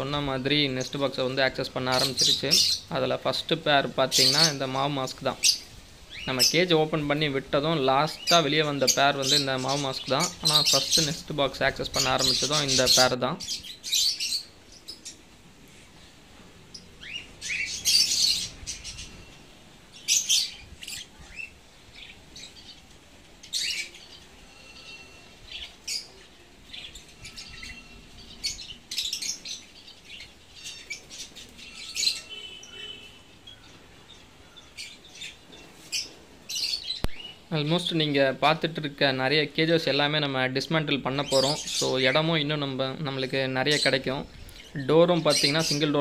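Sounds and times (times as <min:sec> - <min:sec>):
lovebirds chirping: 0:00.0 - 0:46.0.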